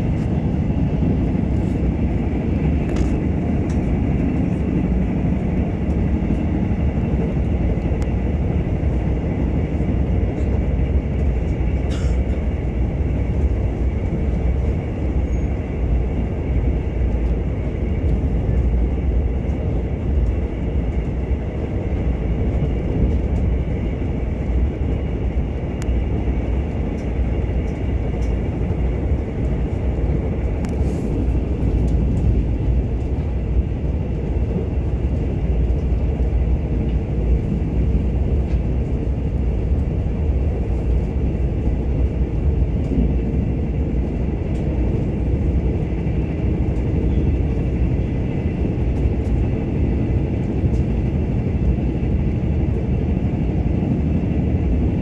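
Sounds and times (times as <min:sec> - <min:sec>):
train rumbling along track: 0:00.0 - 0:55.0.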